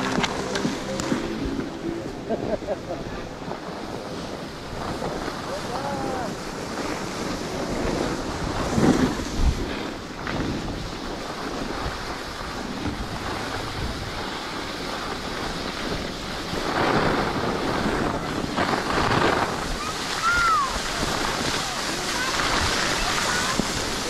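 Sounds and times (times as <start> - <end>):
skis scraping over snow: 0.0 - 24.0
wind rushing over microphone: 0.0 - 24.0.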